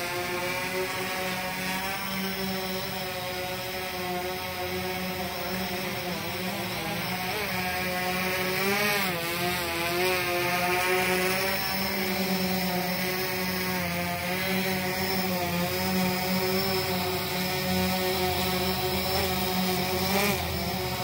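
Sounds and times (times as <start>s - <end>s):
drone rotors buzzing: 0.0s - 21.0s.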